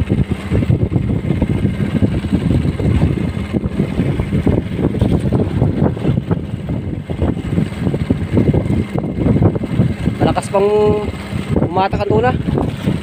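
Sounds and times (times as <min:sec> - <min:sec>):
boat engine idling: 0:00.0 - 0:13.0
rough sea: 0:00.0 - 0:13.0
wind: 0:00.0 - 0:13.0.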